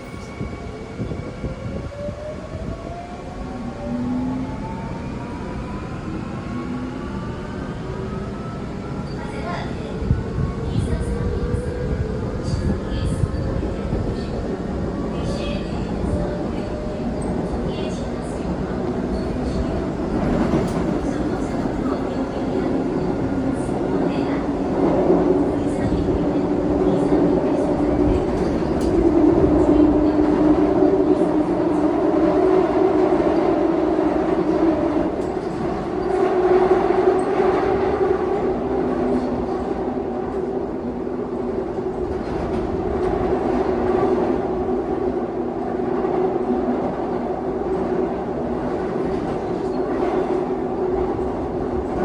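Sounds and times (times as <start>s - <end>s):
train rumble and hum: 0.0s - 52.0s.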